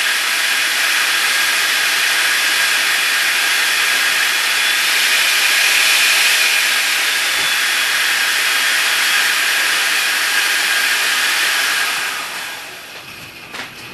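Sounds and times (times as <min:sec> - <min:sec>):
electric ducted fan rushing hiss: 0:00.0 - 0:13.9
high whine of fan blades: 0:00.0 - 0:13.9.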